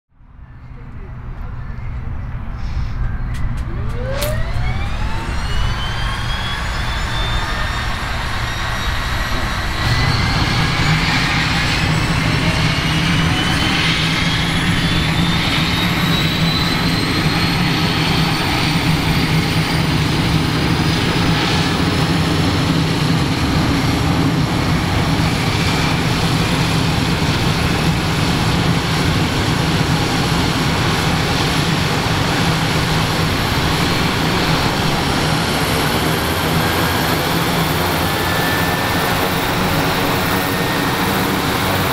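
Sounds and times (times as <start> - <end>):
propeller engine low drone: 0.1 - 41.9
turbine whine rising: 2.6 - 41.9.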